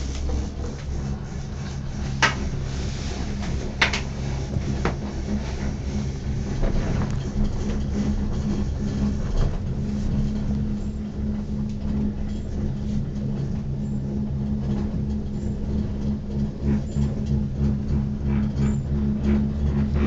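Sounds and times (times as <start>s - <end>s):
cable car cabin humming: 0.0s - 20.0s.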